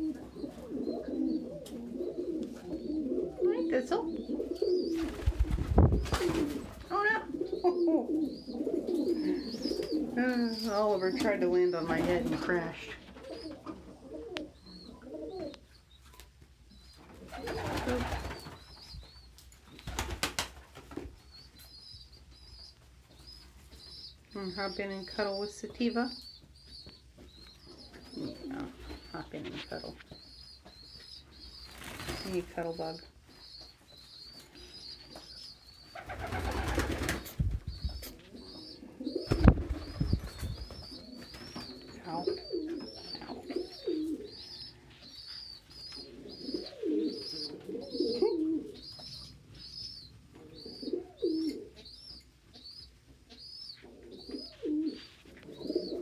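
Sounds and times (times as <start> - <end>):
pigeons cooing: 0.0 - 15.8, 16.8 - 21.0, 23.7 - 56.0.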